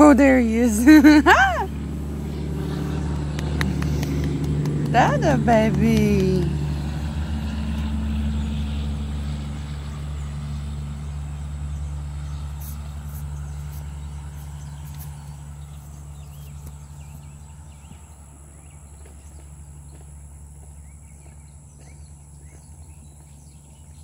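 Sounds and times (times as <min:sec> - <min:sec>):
engine idling hum: 0:00.0 - 0:24.0.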